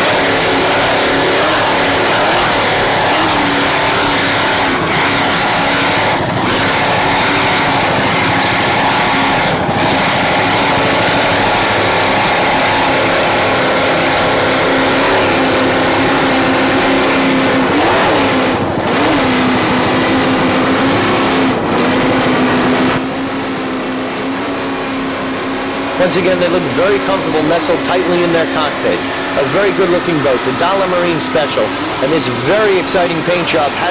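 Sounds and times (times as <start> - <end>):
powerboat engines droning: 0.0 - 33.9.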